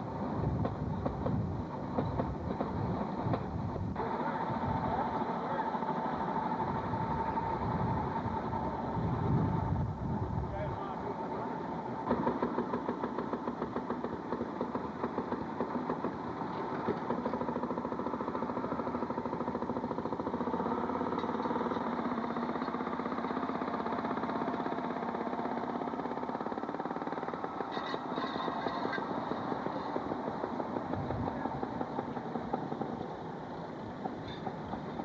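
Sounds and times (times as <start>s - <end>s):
motorcar engine running: 0.0s - 35.0s.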